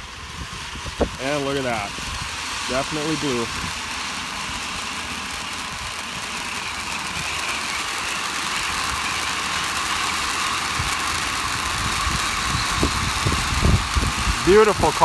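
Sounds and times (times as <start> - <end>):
firework fountains hissing: 0.0 - 15.0.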